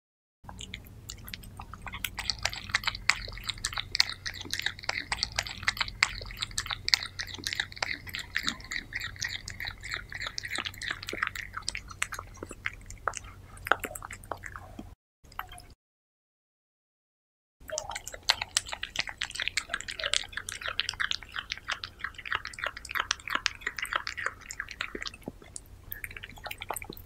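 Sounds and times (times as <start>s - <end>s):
cat licking and chewing food: 0.5s - 15.6s, 17.6s - 27.0s.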